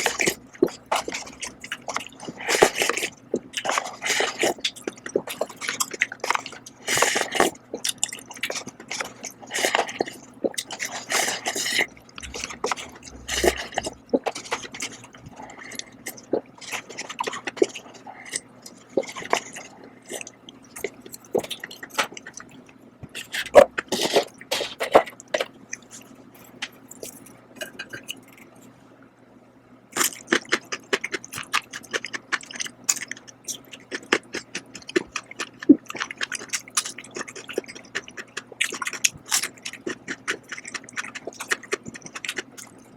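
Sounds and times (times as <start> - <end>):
person chewing and slurping noodles: 0.0 - 26.2, 30.0 - 42.9.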